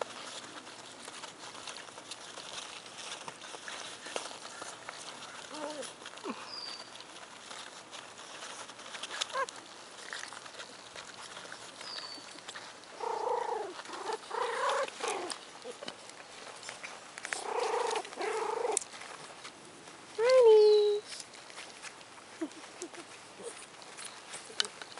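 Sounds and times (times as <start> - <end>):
puppies whining: 0.0 - 19.5, 20.2 - 24.9.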